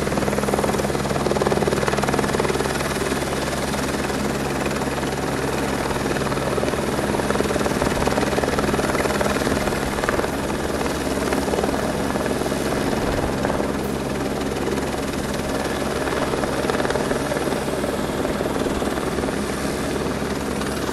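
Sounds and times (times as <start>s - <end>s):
helicopter engine hum: 0.0s - 20.9s
helicopter rotor beating: 0.0s - 20.9s.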